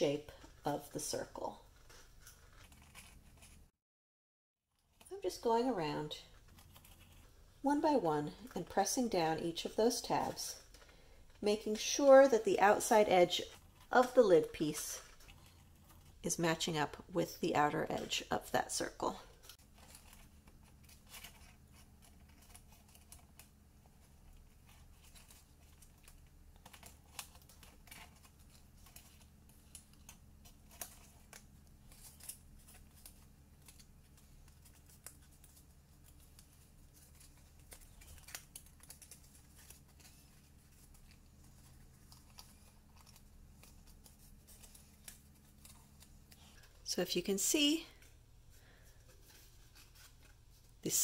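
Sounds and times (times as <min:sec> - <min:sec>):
low steady hum: 0:00.0 - 0:03.7, 0:04.8 - 0:51.0.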